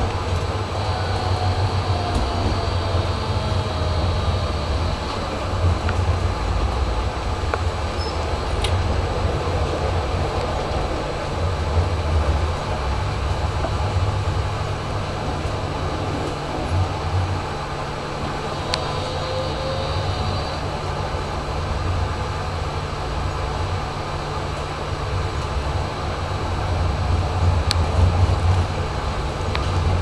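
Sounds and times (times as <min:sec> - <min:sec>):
tram rumble: 0:00.0 - 0:30.0.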